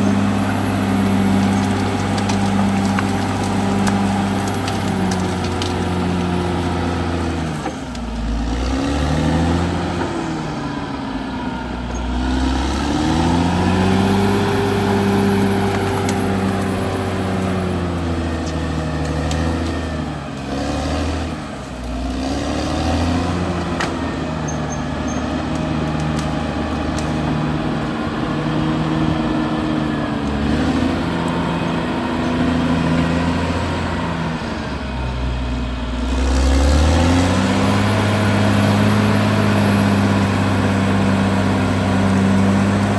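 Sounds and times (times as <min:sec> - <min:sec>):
bulldozer diesel engine working: 0:00.0 - 0:42.9.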